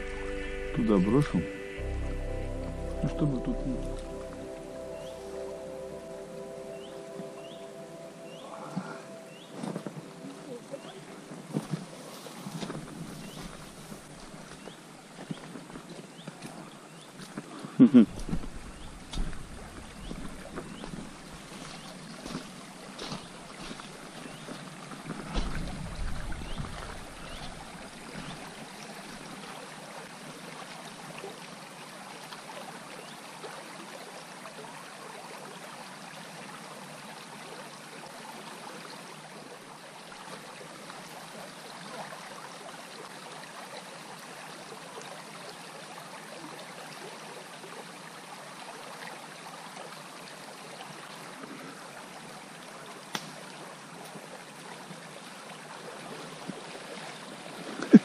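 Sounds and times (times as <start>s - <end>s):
river babbling over stones: 2.4s - 58.0s.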